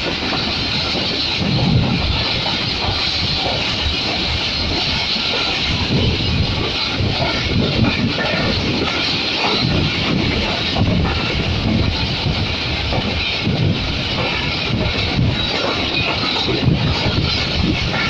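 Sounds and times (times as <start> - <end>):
train rushing at speed: 0.0 - 18.0
train wheels rumbling and knocking: 0.0 - 18.0.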